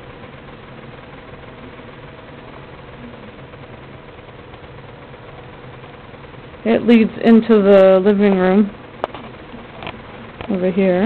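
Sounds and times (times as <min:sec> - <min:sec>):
mechanical hum with faint tones: 0:00.0 - 0:11.0.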